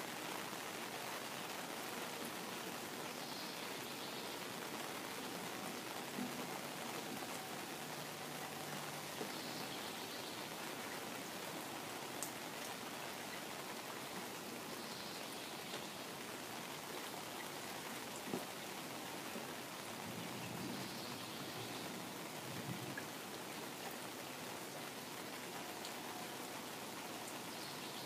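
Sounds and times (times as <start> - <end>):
rain falling on a pond: 0.0 - 28.0.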